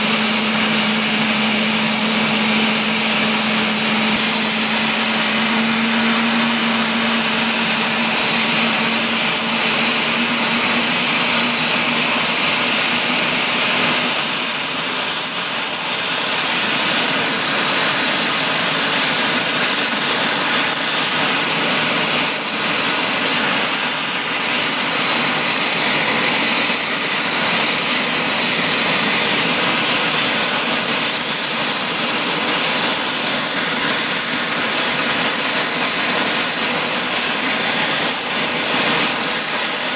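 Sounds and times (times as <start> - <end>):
low hum: 0.0 - 39.2
helicopter turbine whine: 0.0 - 39.9.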